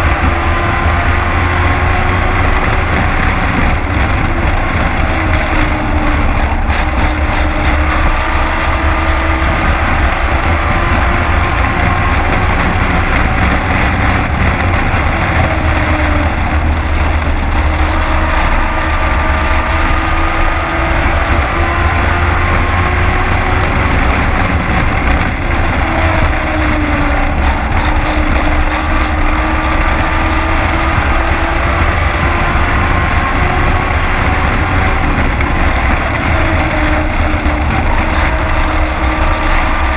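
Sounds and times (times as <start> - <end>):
race truck engine revving: 0.0 - 39.9.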